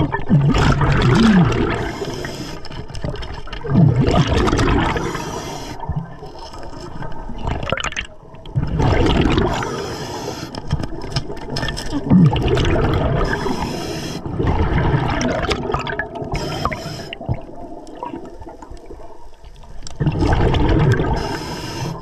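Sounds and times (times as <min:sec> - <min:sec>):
diver exhaling bubbles: 0:00.0 - 0:02.8, 0:03.6 - 0:10.6, 0:11.9 - 0:18.6, 0:20.0 - 0:22.0.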